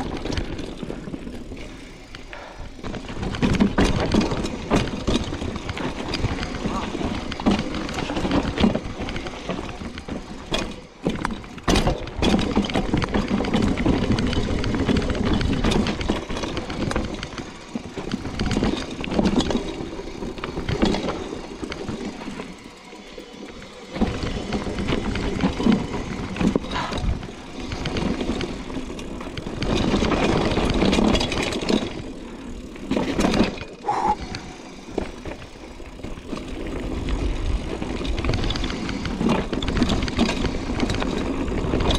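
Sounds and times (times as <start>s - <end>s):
bike rattling and knocking: 0.0s - 41.9s
bike tyres rolling over stones: 0.0s - 41.9s.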